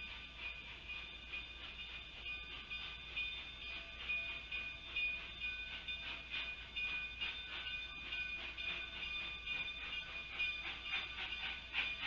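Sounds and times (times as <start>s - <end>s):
steel wheels squealing: 0.0s - 12.0s
train cars rolling past: 0.0s - 12.0s.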